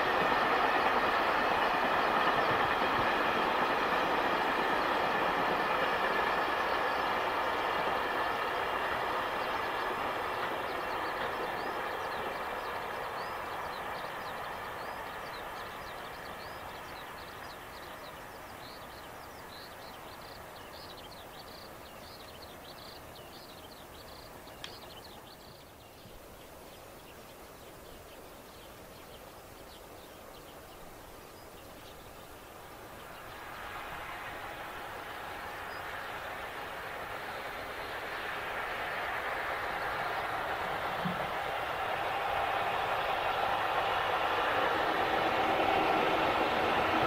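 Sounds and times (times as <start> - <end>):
train wheels on rails: 0.0 - 47.0.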